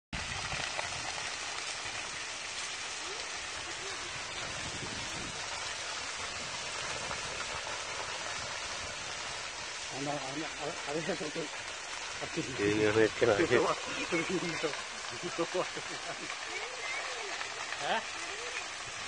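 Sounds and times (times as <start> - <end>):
dry grass crackling in fire: 0.2 - 19.0.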